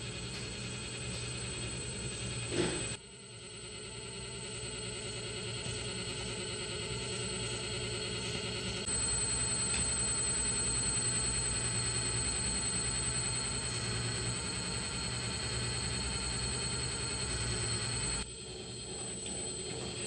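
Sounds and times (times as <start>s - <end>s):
electric hydraulic pump whining: 0.0s - 20.0s.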